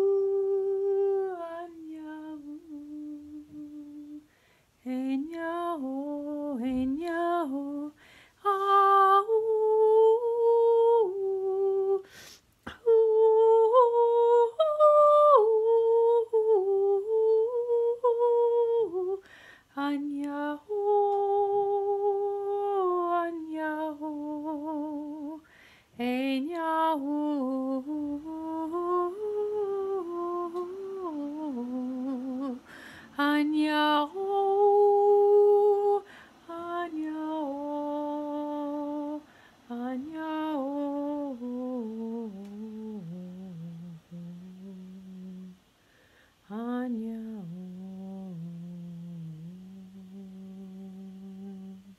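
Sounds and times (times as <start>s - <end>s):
woman singing wordless held notes: 0.0s - 51.9s.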